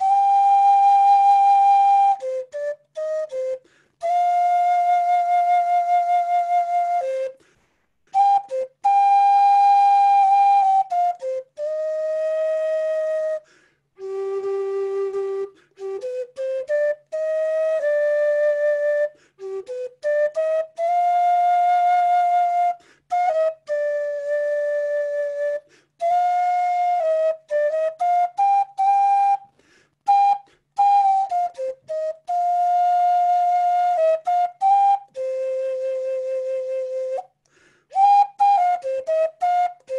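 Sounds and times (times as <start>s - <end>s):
wooden flute melody: 0.0s - 39.9s.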